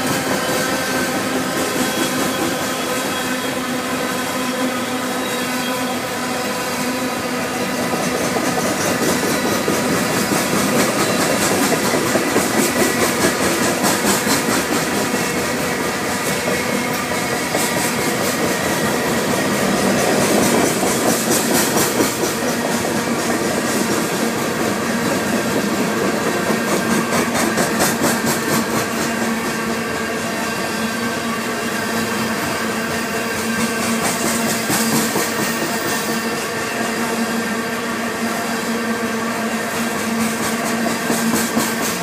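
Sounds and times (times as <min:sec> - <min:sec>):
freight train rolling past: 0:00.0 - 0:42.0.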